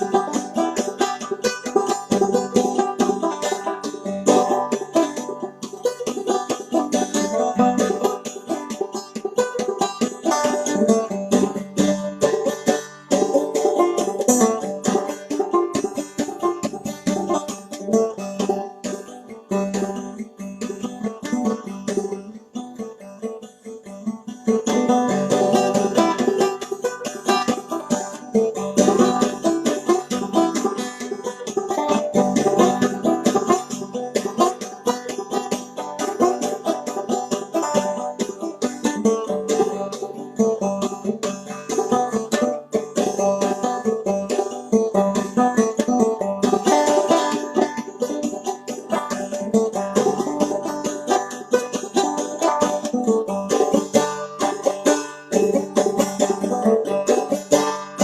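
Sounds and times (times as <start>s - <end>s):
banjo playing: 0.0s - 58.0s.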